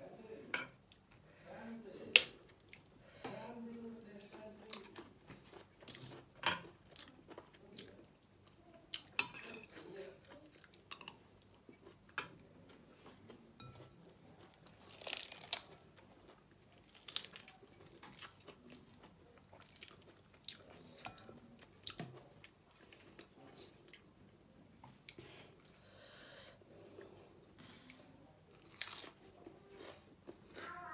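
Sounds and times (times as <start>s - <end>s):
person chewing food: 2.2s - 3.0s, 3.8s - 9.3s, 10.2s - 24.2s, 24.8s - 30.9s.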